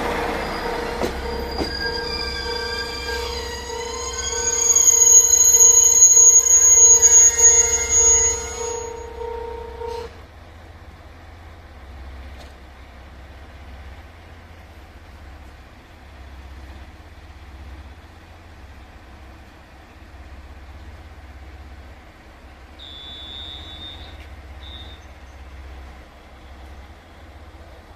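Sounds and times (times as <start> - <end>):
diesel railcars idling: 0.0 - 27.9.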